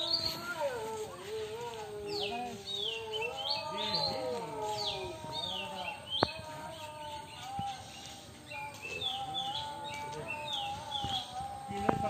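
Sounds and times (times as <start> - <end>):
birds chirping: 0.0 - 12.0
low hum of calls: 0.0 - 12.0.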